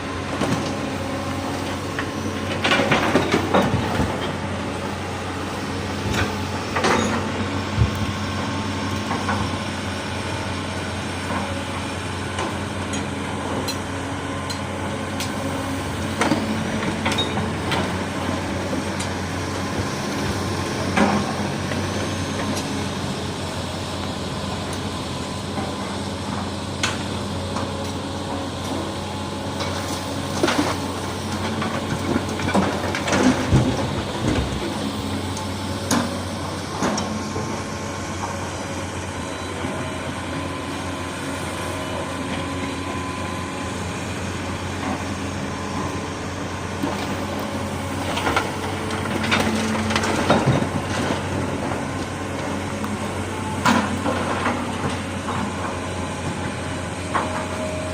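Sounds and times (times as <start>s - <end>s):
heavy machinery diesel engine: 0.0s - 57.9s.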